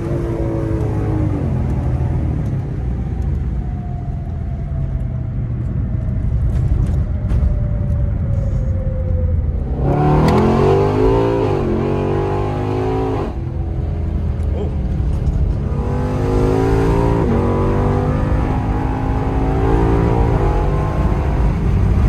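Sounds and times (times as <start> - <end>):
car exhaust drone and revving: 0.0 - 22.0.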